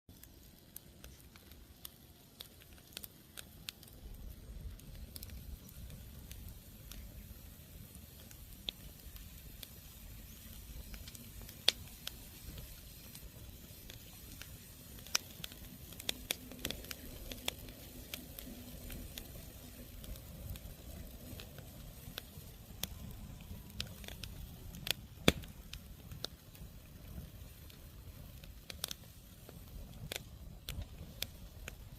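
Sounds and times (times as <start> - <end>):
campfire crackling and popping: 0.1 - 31.9.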